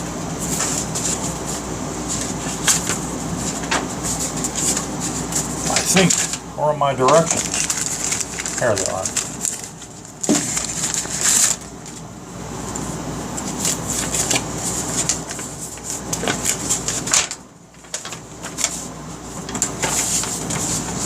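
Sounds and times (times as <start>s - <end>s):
paper rustling and crinkling: 0.4s - 6.4s, 7.0s - 12.1s, 13.4s - 21.0s.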